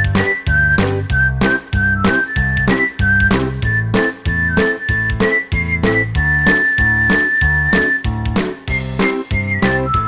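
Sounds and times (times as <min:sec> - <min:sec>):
high whistling melody: 0:00.0 - 0:10.0.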